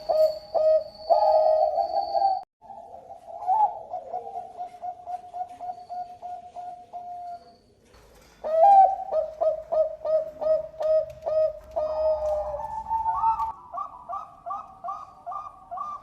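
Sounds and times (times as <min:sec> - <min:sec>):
dove cooing: 0:00.0 - 0:07.5, 0:08.4 - 0:16.0.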